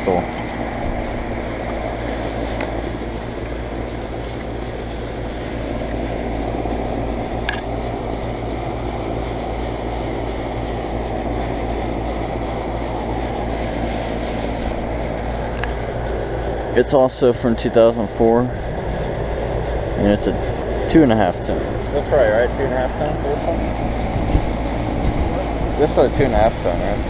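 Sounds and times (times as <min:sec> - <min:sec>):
air conditioner compressor humming: 0:00.0 - 0:27.0
condenser fan whirring: 0:00.0 - 0:27.0.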